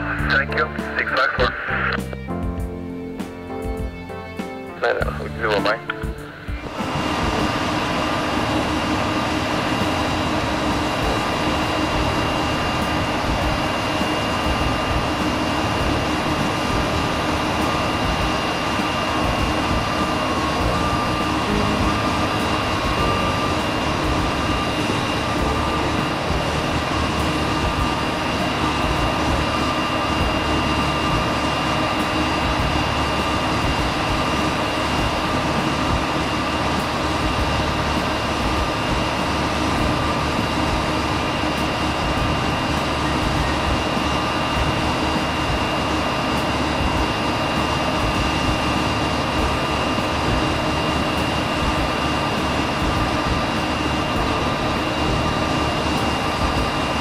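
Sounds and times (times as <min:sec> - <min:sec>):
airliner cabin noise: 0:00.0 - 0:57.0.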